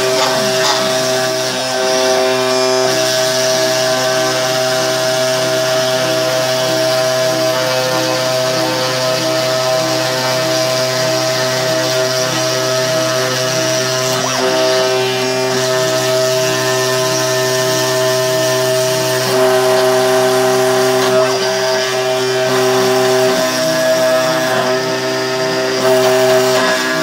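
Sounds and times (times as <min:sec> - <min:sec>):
milling machine spindle whine: 0:00.0 - 0:27.0.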